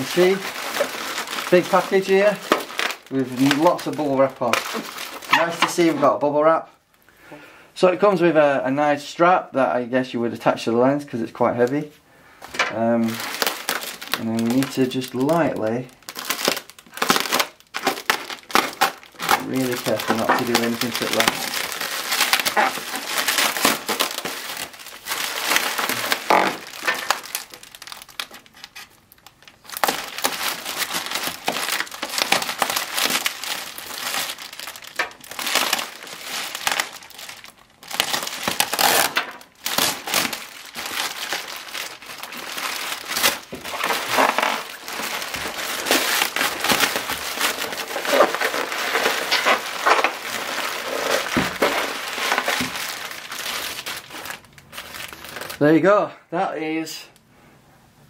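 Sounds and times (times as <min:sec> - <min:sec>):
bubble wrap crinkling: 0:00.0 - 0:06.3, 0:11.5 - 0:55.9.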